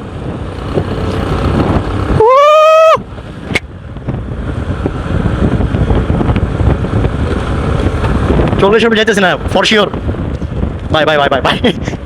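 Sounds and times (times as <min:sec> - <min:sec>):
motorcycle engine running: 0:00.0 - 0:02.3, 0:03.0 - 0:11.0
wind buffeting microphone: 0:00.0 - 0:12.0.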